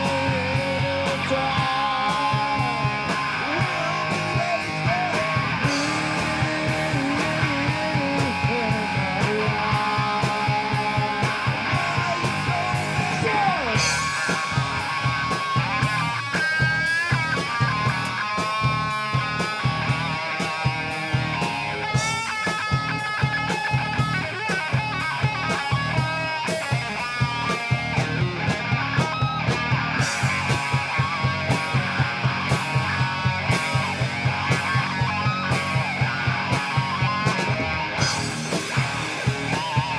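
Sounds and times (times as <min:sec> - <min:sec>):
drum beat: 0:00.0 - 0:39.9
electric guitar: 0:00.0 - 0:39.9.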